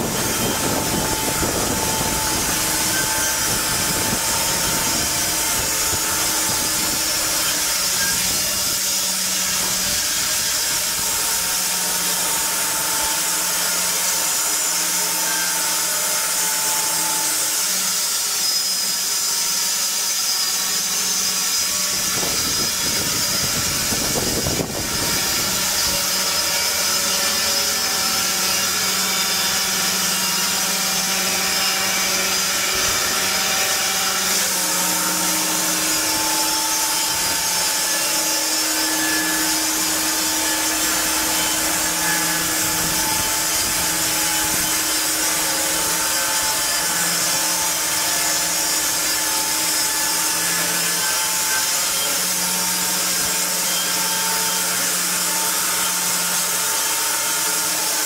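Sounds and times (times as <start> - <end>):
band sawmill sawing log: 0.0 - 58.0.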